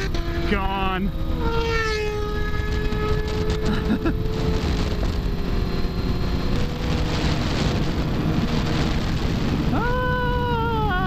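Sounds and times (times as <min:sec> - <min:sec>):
motorcycle engine running: 0:00.0 - 0:11.0
wind on microphone: 0:01.2 - 0:11.0.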